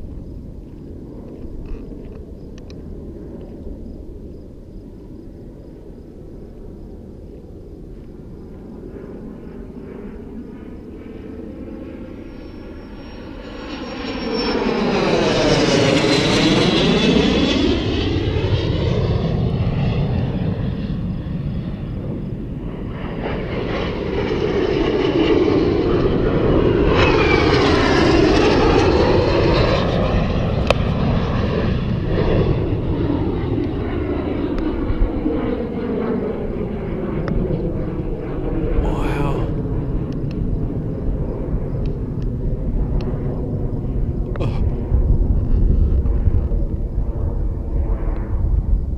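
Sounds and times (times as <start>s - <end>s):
airplane engine flying past: 0.0s - 48.9s.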